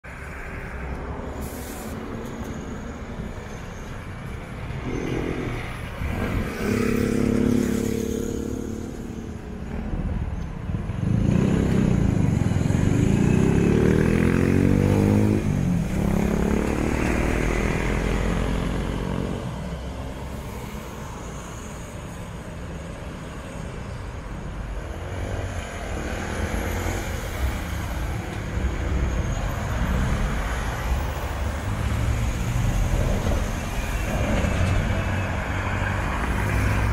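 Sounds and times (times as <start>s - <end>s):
bus engines rumbling: 0.0s - 36.9s.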